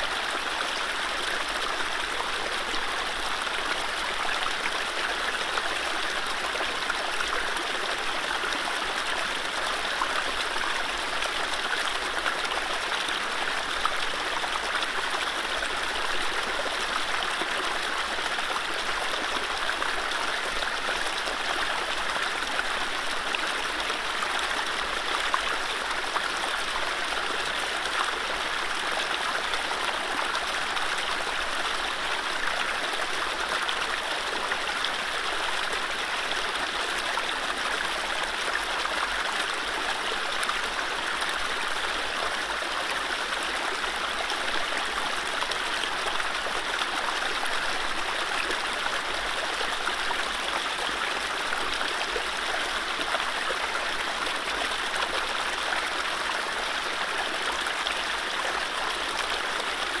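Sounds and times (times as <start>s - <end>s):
stream running over rapids: 0.0s - 60.0s.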